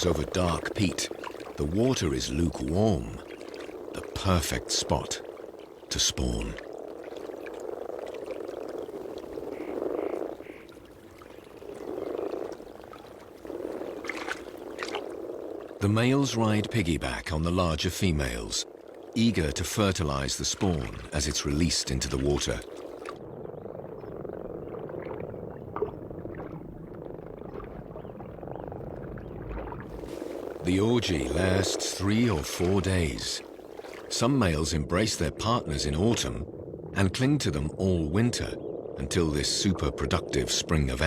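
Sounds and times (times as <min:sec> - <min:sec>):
frogs croaking in chorus: 0:00.0 - 0:41.0.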